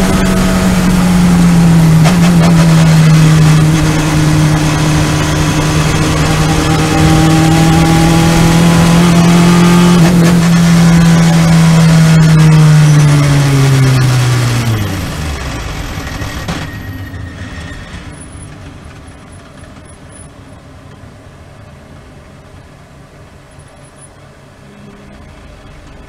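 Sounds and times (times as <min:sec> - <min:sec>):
low car rumble: 0:00.0 - 0:26.0.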